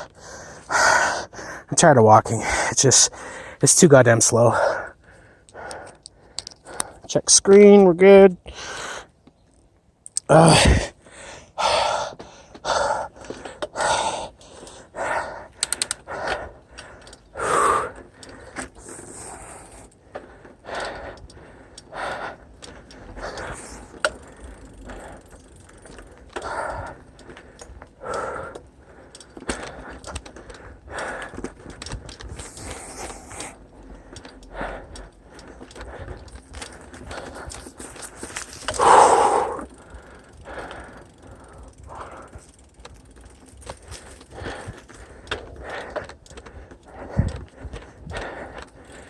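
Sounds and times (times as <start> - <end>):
person breathing hard: 0.0 - 1.7, 2.4 - 3.6, 4.5 - 7.1, 8.4 - 9.2, 10.4 - 49.0.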